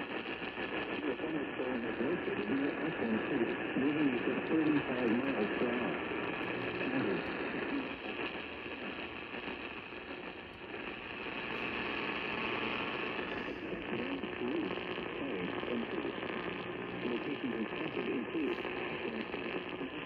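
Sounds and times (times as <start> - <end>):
faint voice on radio: 0.0 - 20.0
radio static and hiss: 0.0 - 20.0.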